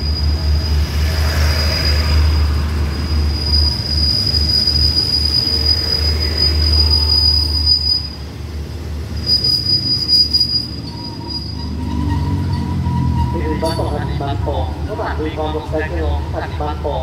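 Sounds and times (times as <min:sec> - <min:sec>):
train rumble: 0:00.0 - 0:17.0
train wheels squealing on rails: 0:00.0 - 0:17.0.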